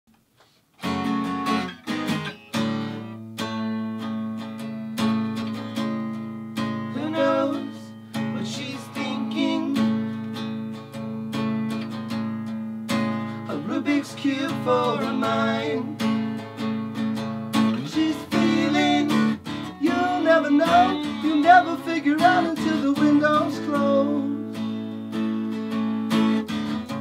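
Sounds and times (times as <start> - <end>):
acoustic guitars strumming chords: 0.4 - 27.0.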